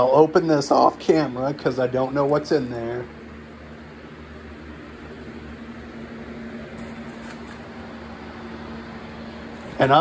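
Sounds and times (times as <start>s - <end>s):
appliance humming: 0.0s - 10.0s.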